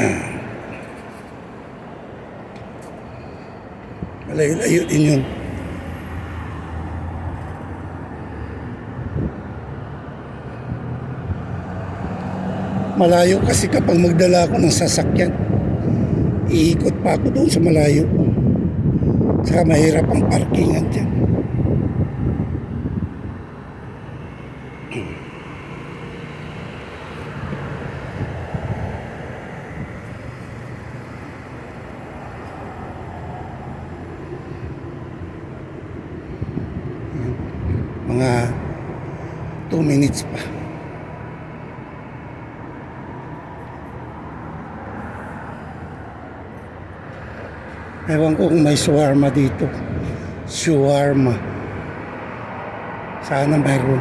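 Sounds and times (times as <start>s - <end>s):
passing cars rumble: 0.0s - 54.0s
road traffic rushing: 0.0s - 54.0s.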